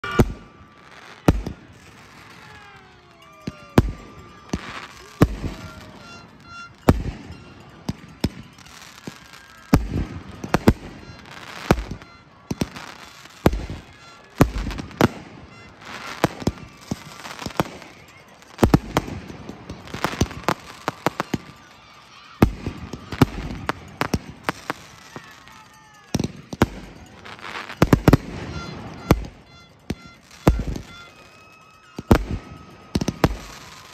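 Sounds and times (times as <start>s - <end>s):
fireworks bangs: 0.0s - 33.9s
fireworks whistling: 0.0s - 33.9s.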